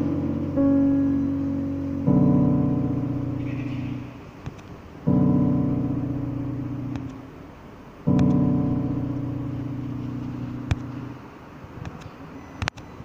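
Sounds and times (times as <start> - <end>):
piano chords ringing: 0.0 - 12.6
steady background hiss: 0.0 - 13.0.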